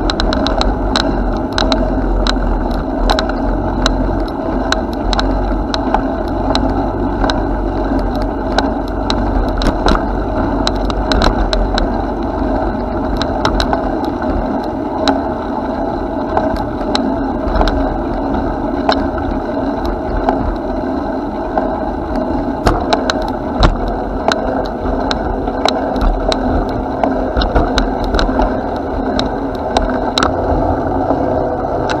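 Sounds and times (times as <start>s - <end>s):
bicycle rattling clicks: 0.0s - 15.4s, 16.2s - 20.8s, 21.6s - 30.4s
bicycle tyres rolling: 0.0s - 32.0s.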